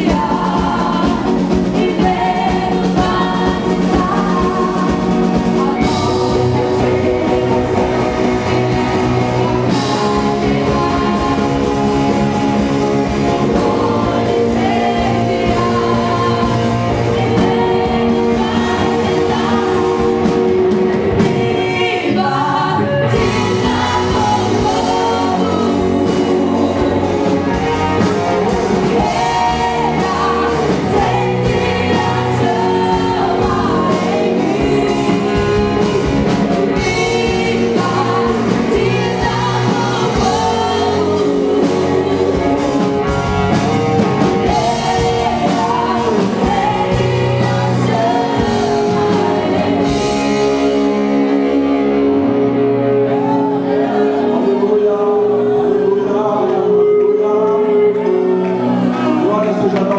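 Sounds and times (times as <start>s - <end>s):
worship music with singing: 0.0s - 59.9s.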